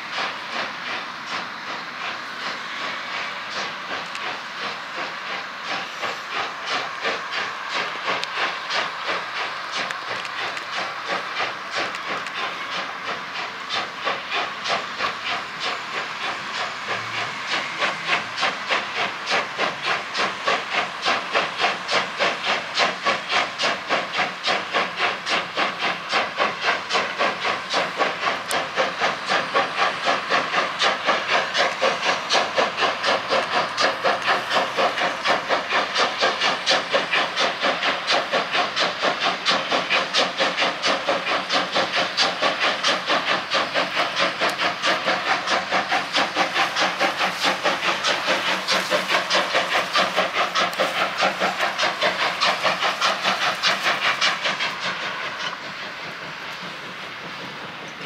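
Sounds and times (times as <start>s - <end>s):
steam hissing: 0.0s - 58.0s
steam locomotive exhaust chuffing: 0.0s - 58.0s.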